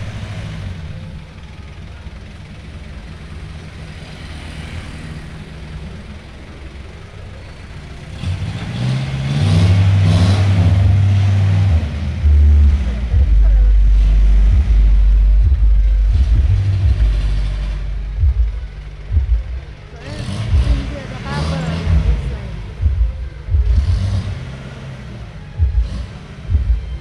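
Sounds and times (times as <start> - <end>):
engine rumbling and revving: 0.0 - 27.0.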